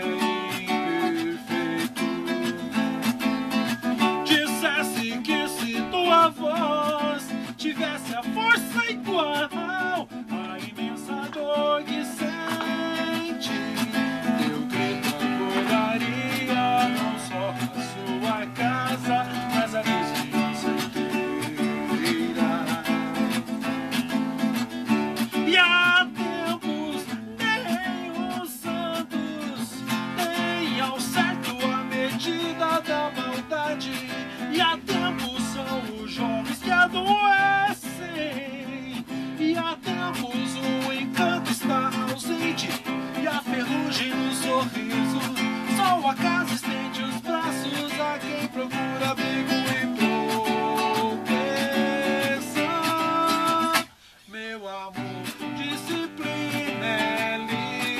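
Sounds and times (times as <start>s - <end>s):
acoustic guitar playing: 0.0s - 57.9s.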